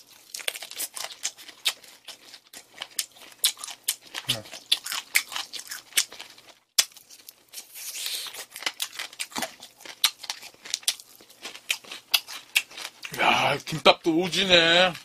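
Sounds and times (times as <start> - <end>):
crunching of fried chicken: 0.0 - 15.0.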